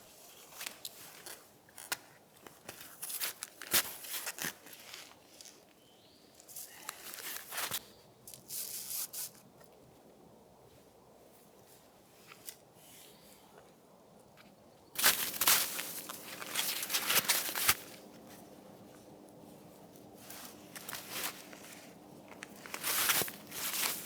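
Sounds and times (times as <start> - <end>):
rustling and crinkling: 0.0 - 24.0.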